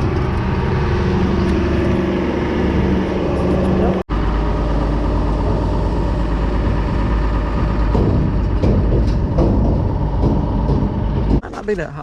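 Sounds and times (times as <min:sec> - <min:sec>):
grain auger engine droning: 0:00.0 - 0:11.3.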